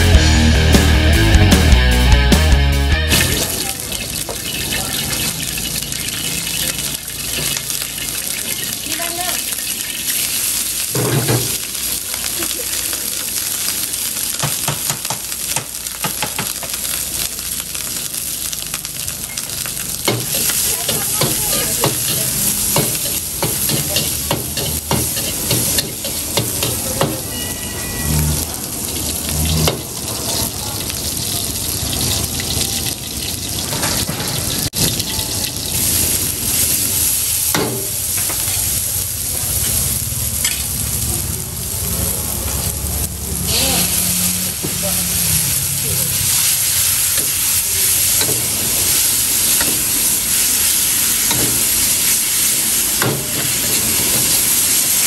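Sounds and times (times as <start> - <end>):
squid sizzling in hot oil: 3.1 - 55.0.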